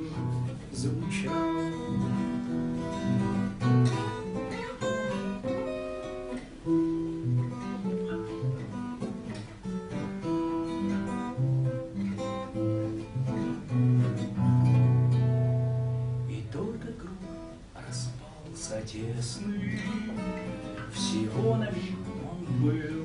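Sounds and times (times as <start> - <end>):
acoustic guitar plucking: 0.0 - 23.0.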